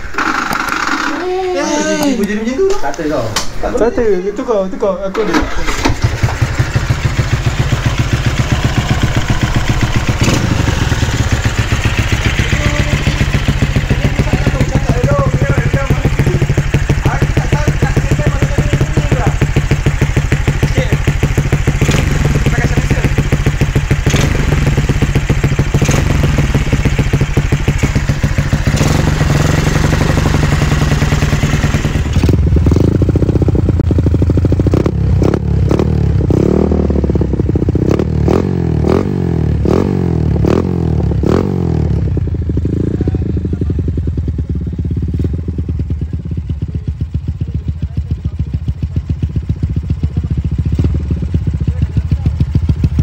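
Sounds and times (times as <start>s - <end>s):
motorcycle engine idling and revving: 0.0s - 3.2s, 5.3s - 53.0s.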